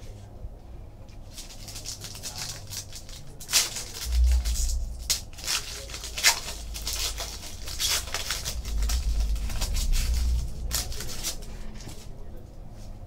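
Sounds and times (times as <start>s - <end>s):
foil wrapper crinkling and tearing: 1.3s - 12.1s.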